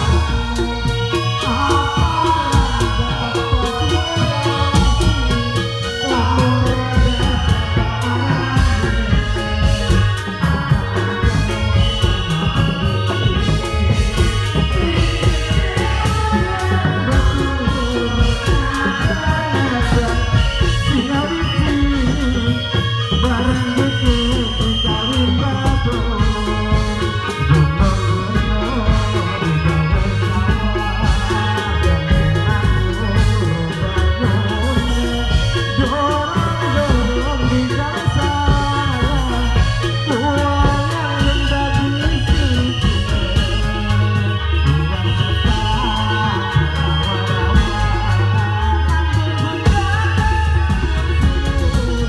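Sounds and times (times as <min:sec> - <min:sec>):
live folk band music: 0:00.0 - 0:52.0
steady low drumming: 0:00.0 - 0:52.0.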